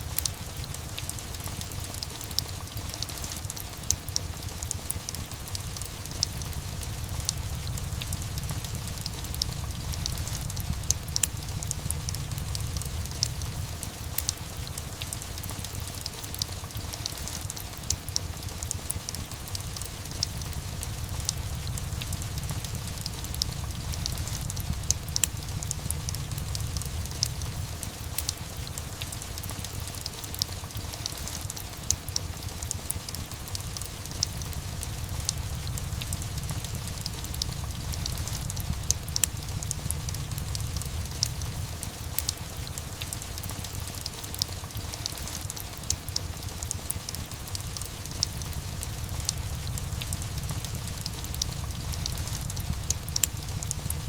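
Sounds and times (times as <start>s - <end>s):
fire low rumble: 0.0s - 54.0s
fireplace fire crackling and popping: 0.0s - 54.0s
steady rain: 0.0s - 54.0s.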